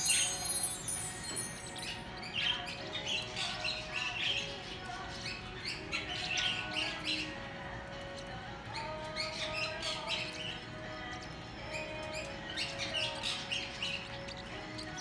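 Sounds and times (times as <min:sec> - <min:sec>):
small parrots chirping: 0:00.0 - 0:15.0.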